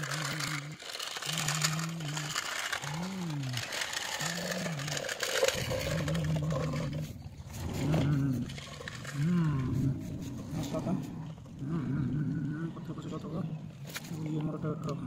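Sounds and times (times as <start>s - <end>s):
low hum: 0.0s - 15.0s
toy wheels rattling on concrete: 0.0s - 15.0s.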